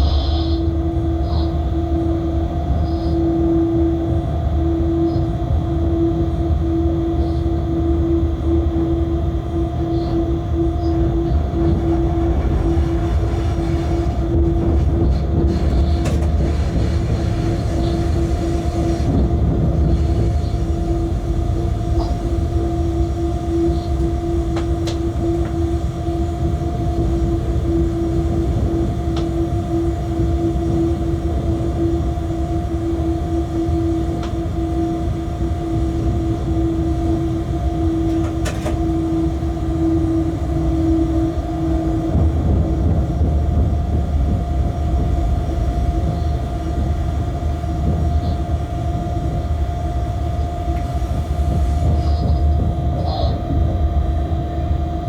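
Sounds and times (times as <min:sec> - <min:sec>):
locomotive rumble: 0:00.0 - 0:55.0.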